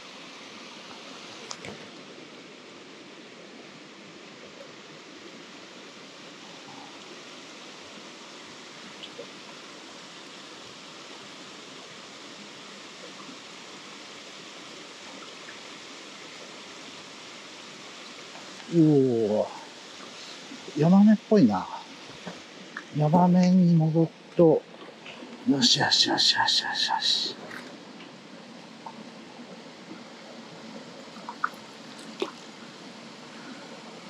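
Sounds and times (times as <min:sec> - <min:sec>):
stream water rushing over rocks: 0:00.0 - 0:34.0.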